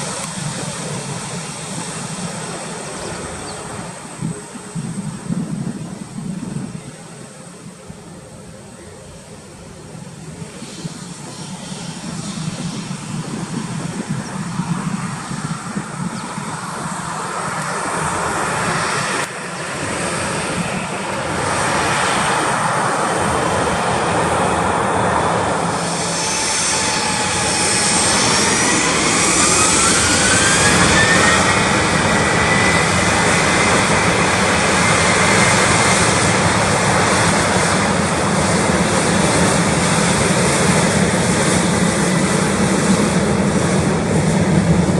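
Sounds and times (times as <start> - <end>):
jet engine roar: 0.0 - 44.9
jet engine whine rising: 0.0 - 44.9.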